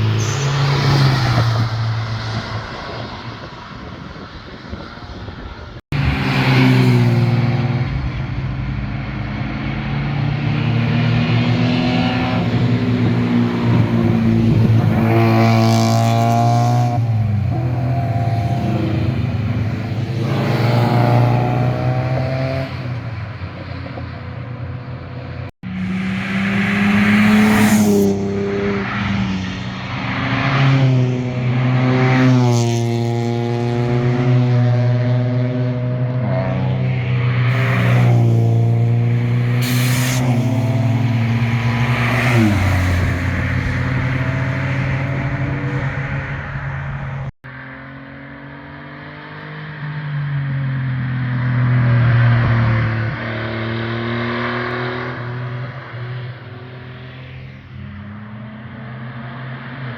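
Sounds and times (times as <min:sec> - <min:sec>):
cars revving past: 0:06.0 - 0:59.9.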